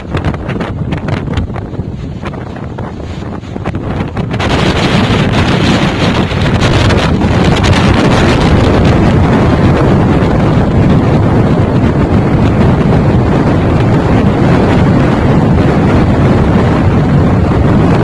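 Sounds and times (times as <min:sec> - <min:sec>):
storm wind buffeting microphone: 0:00.0 - 0:18.0.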